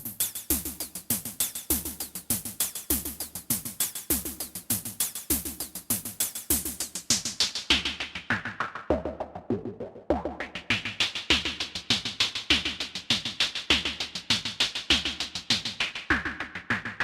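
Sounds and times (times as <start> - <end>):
synthesizer drum pattern: 0.0 - 17.0.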